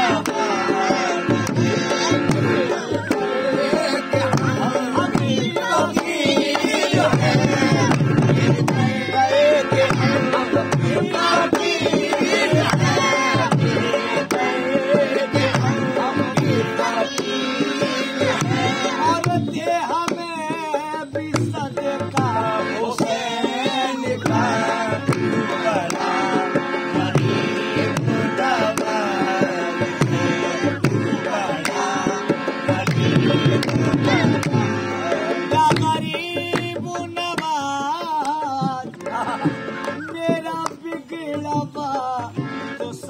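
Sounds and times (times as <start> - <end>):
tabla drumming: 0.0 - 43.0.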